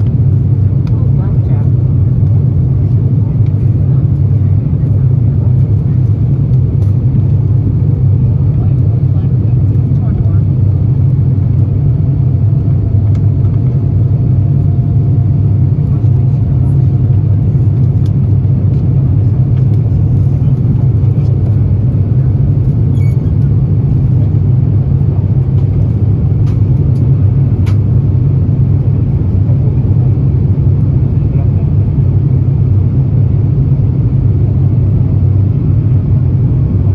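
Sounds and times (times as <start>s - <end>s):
jet engine cabin rumble: 0.0s - 36.9s.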